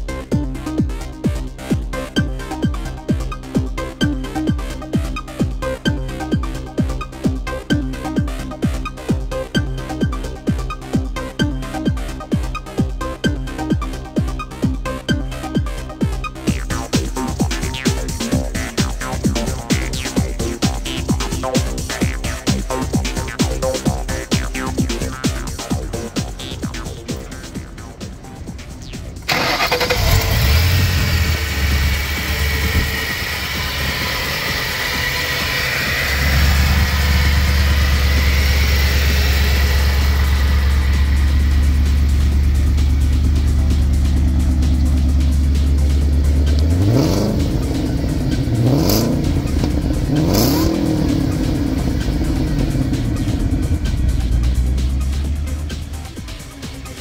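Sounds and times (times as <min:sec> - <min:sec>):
electronic music: 0:00.0 - 0:57.0
car engine starting and idling: 0:00.1 - 0:57.0.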